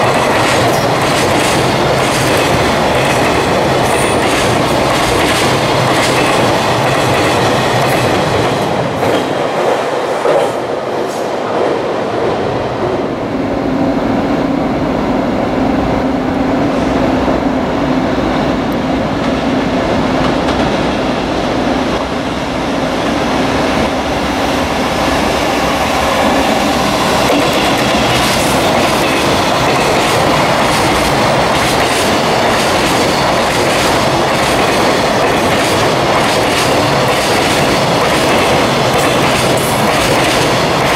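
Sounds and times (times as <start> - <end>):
train wheels clickety-clack on rails: 0.0 - 13.1, 18.1 - 40.9.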